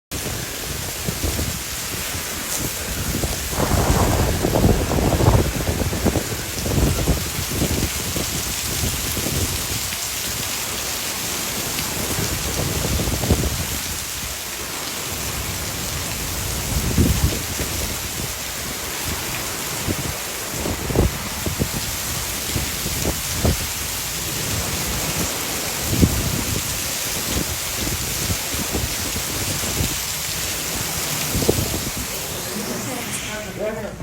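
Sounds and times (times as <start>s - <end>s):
wind gusts buffeting microphone: 0.1s - 10.5s, 11.8s - 14.4s, 15.2s - 34.0s
heavy rain hissing: 0.1s - 34.0s.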